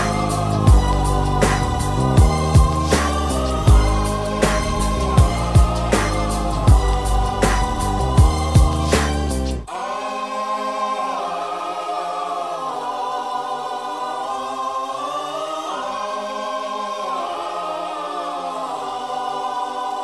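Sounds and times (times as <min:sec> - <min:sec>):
choir holding sustained chords: 0:00.0 - 0:20.0.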